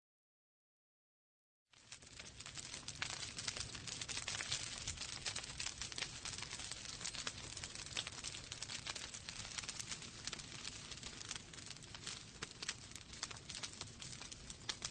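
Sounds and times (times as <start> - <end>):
low rumble of flames: 1.7 - 14.9
wood fire crackling and popping: 1.7 - 14.9.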